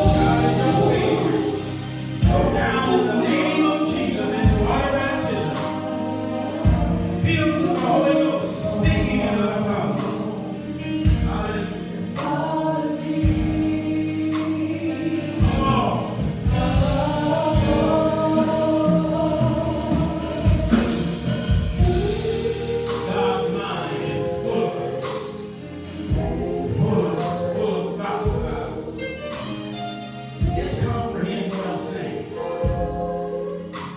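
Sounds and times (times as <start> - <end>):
choir singing gospel: 0.0 - 33.9
instrumental backing with beat: 0.0 - 33.9.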